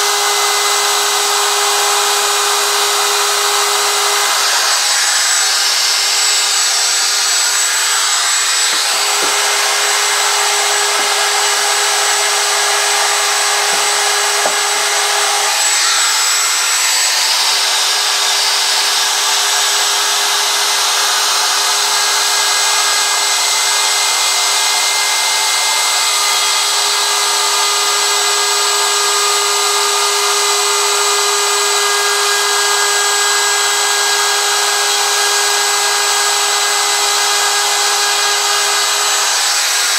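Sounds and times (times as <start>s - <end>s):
router whine cutting wood: 0.0s - 39.9s.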